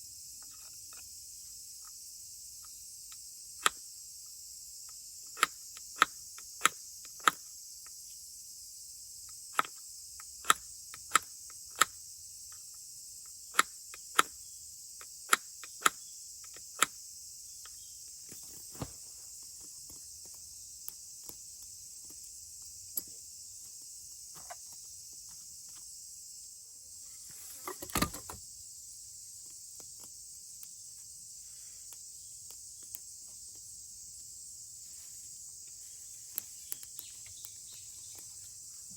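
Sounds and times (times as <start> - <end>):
chorus of insects: 0.0 - 38.9.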